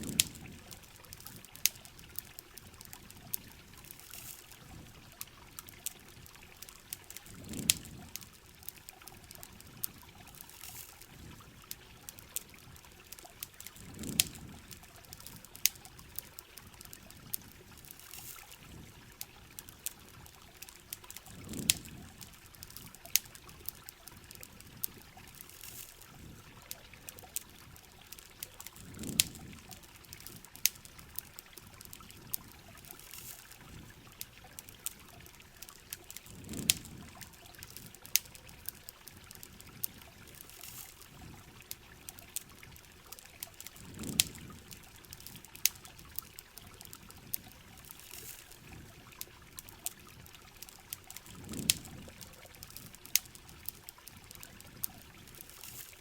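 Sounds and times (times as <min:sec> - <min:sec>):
campfire crackles: 0:00.0 - 0:56.0
rain: 0:00.0 - 0:56.0
trickling water: 0:00.0 - 0:56.0.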